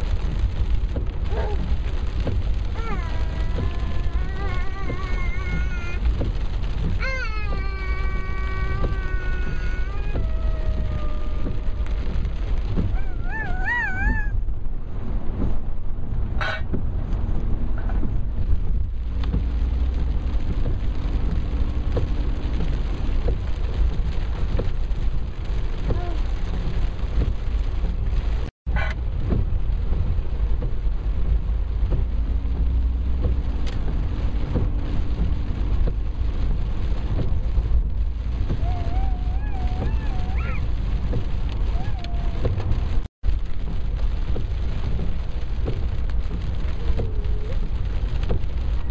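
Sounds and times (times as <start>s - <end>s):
car driving rumble: 0.0s - 48.9s
rain on windscreen: 0.0s - 48.9s
tyres hissing on wet road: 0.0s - 48.9s.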